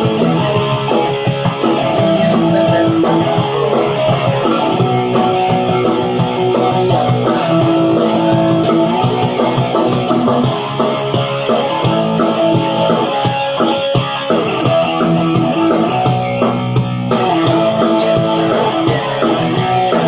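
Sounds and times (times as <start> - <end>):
electric guitar on rock tone: 0.0 - 20.0.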